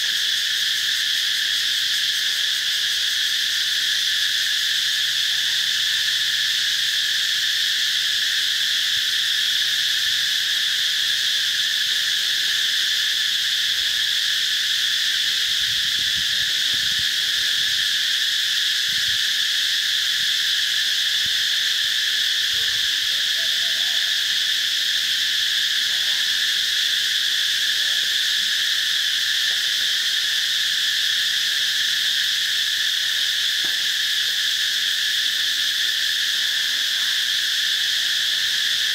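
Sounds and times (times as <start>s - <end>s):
insect chorus droning: 0.0s - 38.9s.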